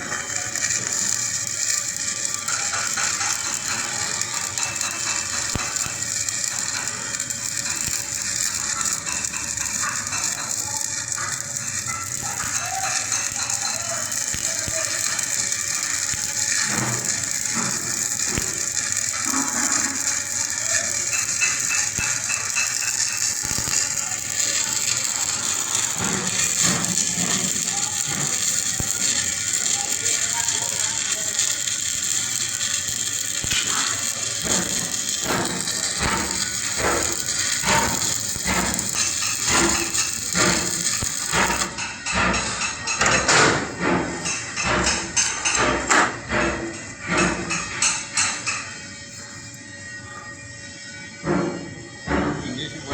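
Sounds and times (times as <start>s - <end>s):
welding arc crackling hiss: 0.0s - 52.9s.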